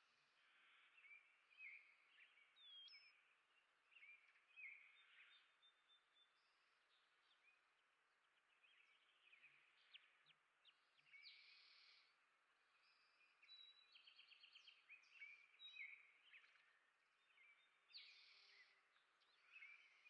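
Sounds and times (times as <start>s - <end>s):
songbird chirping and warbling: 0.0s - 20.0s.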